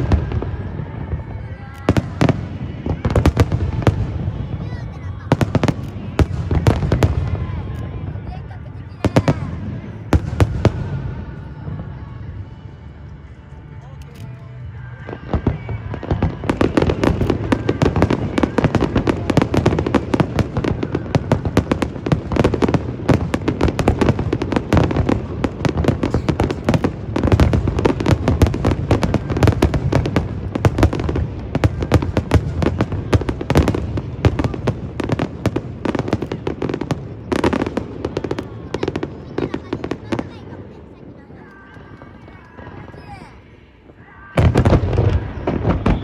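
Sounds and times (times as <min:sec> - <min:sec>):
fireworks bursting: 0:00.0 - 0:46.0.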